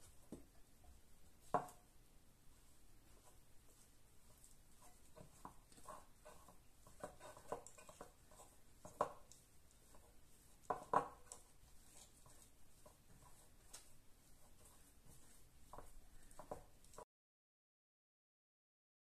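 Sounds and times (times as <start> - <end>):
dough rubbing and squishing: 0.0 - 17.1.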